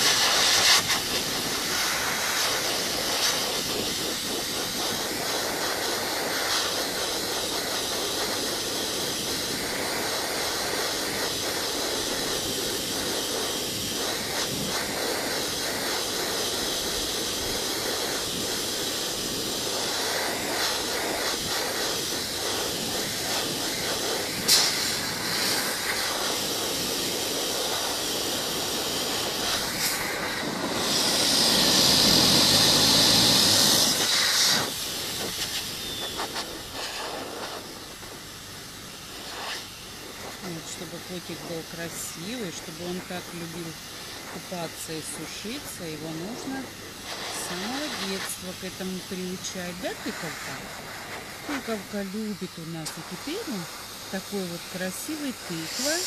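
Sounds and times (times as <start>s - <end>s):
pet dryer blowing air: 0.0s - 56.0s.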